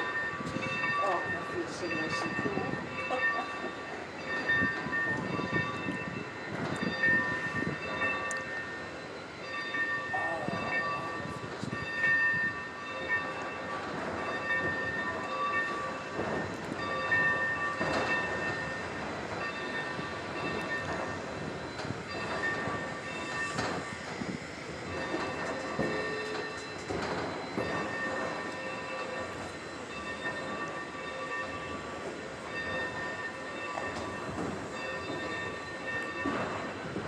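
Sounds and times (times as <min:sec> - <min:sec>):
high ringing tone: 0:00.0 - 0:24.0, 0:24.8 - 0:36.8
train rumble and clatter: 0:00.0 - 0:37.0.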